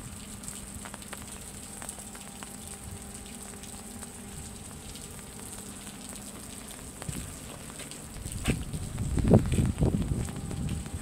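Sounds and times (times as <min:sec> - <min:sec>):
rain pattering on metal: 0:00.0 - 0:11.0.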